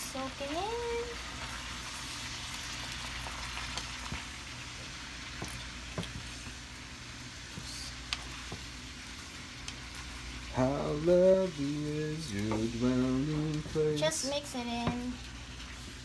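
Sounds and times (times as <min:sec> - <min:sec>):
cabbage sizzling in a pan: 0:00.0 - 0:16.0.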